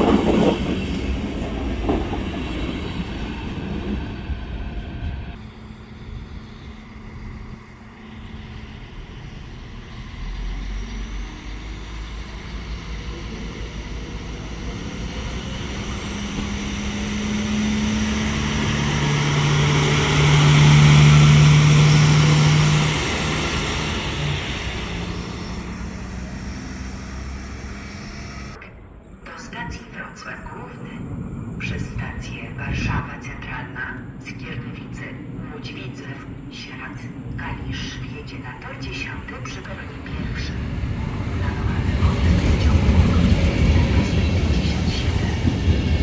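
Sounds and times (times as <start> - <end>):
train running noise: 0.0 - 46.0.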